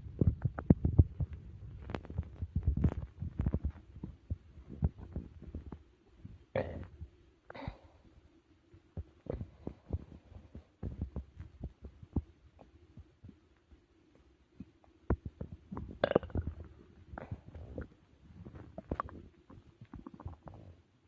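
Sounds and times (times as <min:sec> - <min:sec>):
stomach gurgling: 0:00.0 - 0:08.1, 0:08.8 - 0:21.0
faint steady hum: 0:00.0 - 0:21.0.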